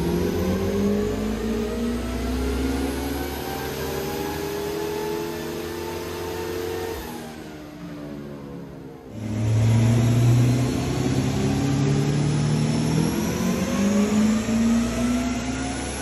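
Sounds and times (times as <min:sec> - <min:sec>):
car engine under load: 0:00.0 - 0:07.1, 0:08.2 - 0:16.0
high turbo whine: 0:00.0 - 0:16.0.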